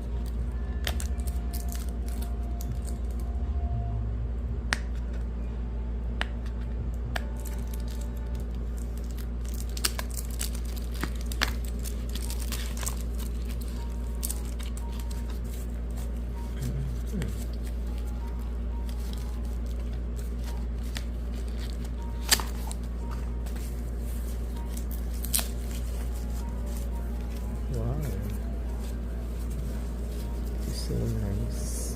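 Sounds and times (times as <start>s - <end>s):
steady low hum: 0.0s - 31.9s
packaging clicks and crinkles: 0.2s - 3.3s, 7.2s - 31.5s.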